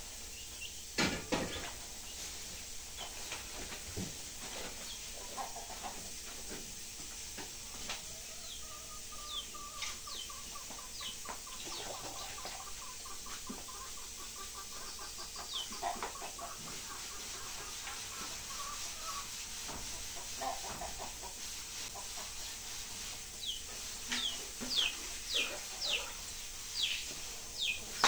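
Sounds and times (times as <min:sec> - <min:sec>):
chickens clucking: 0:00.2 - 0:28.0.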